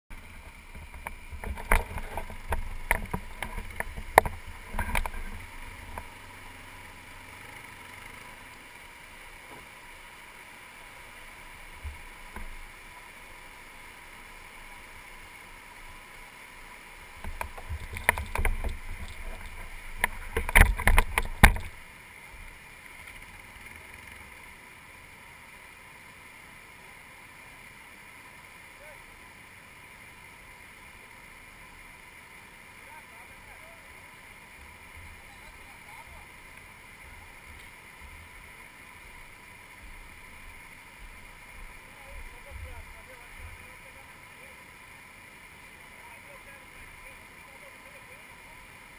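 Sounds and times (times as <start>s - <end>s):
river rapids rushing: 0.1s - 48.9s.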